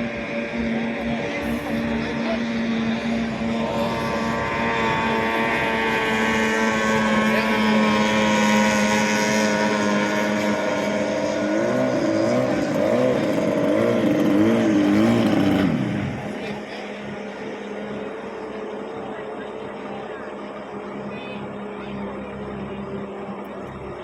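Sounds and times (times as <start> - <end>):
speedboat outboard motors running: 0.0 - 24.0.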